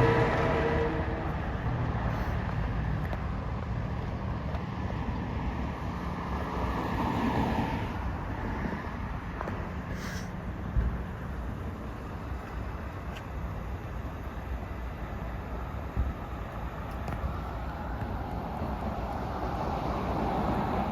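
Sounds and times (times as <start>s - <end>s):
electric train rumbling: 0.0s - 20.9s.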